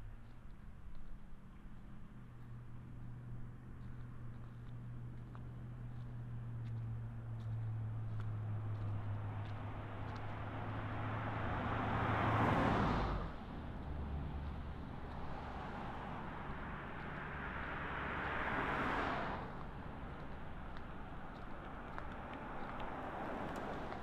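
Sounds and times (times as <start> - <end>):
vehicles passing by: 0.0 - 24.0.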